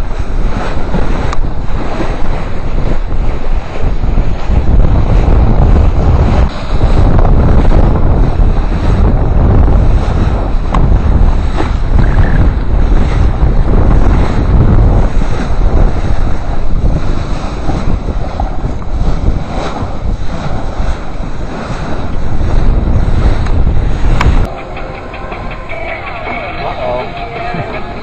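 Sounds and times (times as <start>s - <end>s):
water splashing along hull: 0.0s - 28.0s
wind buffeting microphone: 0.0s - 28.0s.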